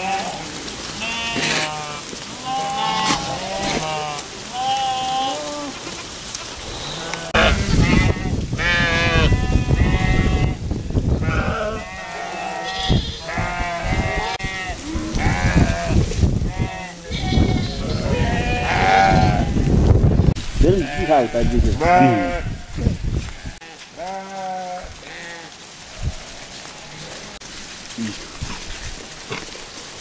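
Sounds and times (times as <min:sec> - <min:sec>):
sheep and goats bleating: 0:00.0 - 0:19.8, 0:20.6 - 0:27.4.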